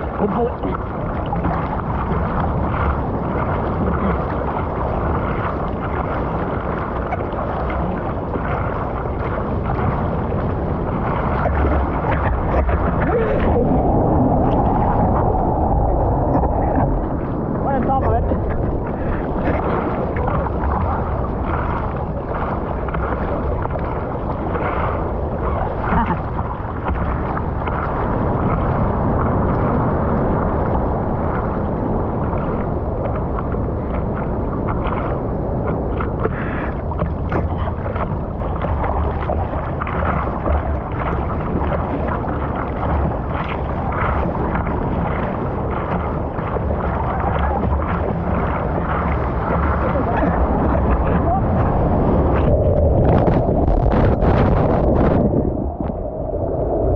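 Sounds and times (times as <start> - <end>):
surf rushing: 0.0 - 56.9.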